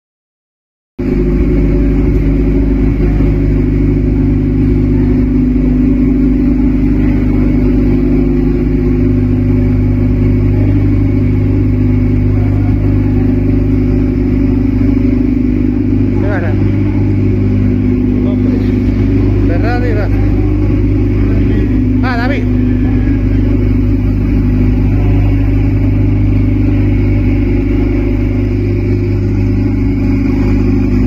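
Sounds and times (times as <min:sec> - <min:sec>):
race car engine idling: 0:01.0 - 0:31.0.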